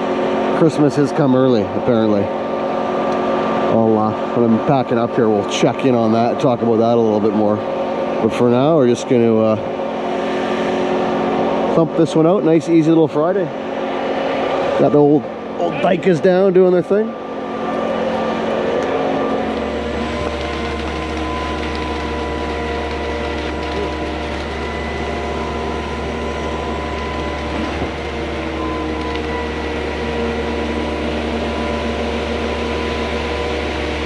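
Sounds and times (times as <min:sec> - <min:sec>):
concrete pump low hum: 0:00.0 - 0:34.0
steady whining tones: 0:00.0 - 0:34.0.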